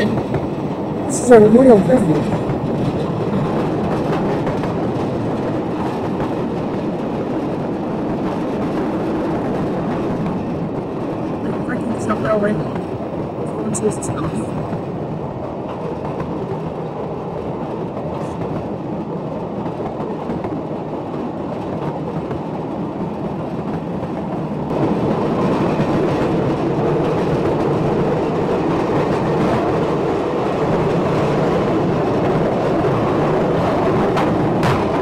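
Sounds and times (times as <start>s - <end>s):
wagon wheels rumbling on rails: 0.0s - 35.0s.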